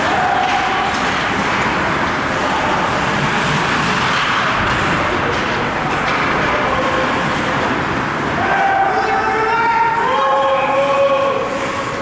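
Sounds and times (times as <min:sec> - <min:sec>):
ice rink crowd roar: 0:00.0 - 0:12.0.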